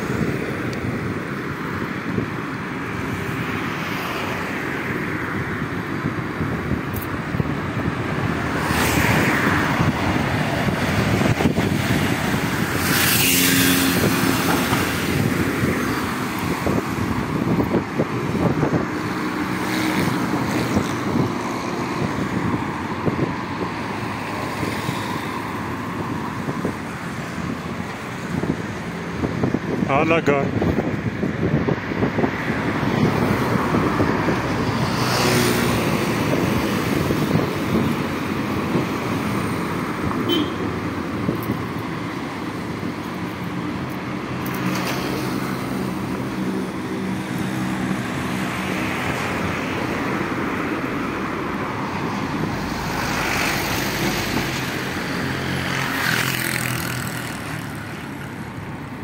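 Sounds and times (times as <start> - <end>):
road traffic passing: 0.0 - 59.0
wind noise on microphone: 0.0 - 59.0.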